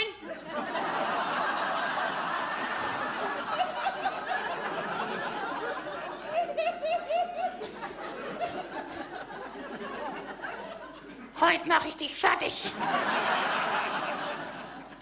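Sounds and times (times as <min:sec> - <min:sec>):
audience laughing: 0:00.2 - 0:11.2, 0:12.6 - 0:15.0.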